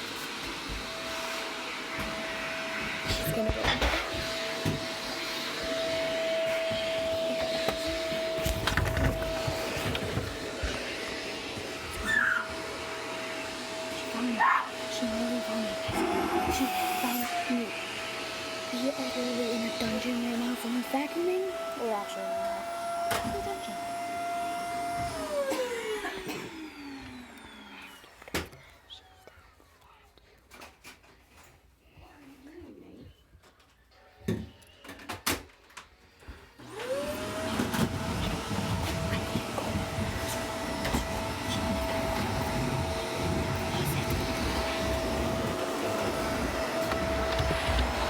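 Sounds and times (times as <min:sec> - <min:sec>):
vacuum cleaner motor spinning down: 0:00.0 - 0:29.0, 0:36.6 - 0:48.0.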